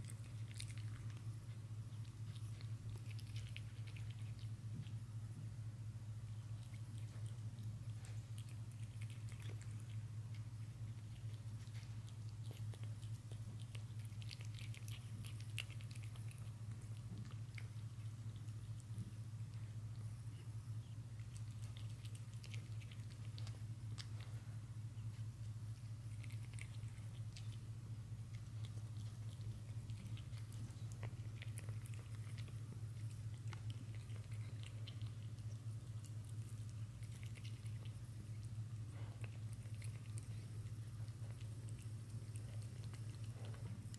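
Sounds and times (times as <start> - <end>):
cat chewing and licking: 0.0 - 43.9
steady low hum: 0.0 - 43.9.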